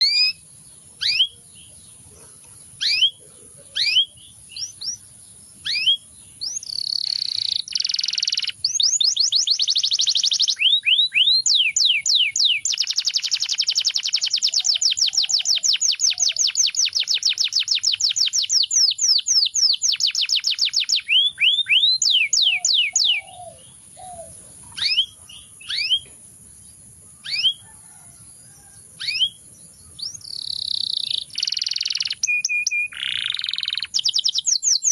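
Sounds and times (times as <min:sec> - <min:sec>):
canary singing: 0:00.0 - 0:26.2, 0:26.8 - 0:34.9.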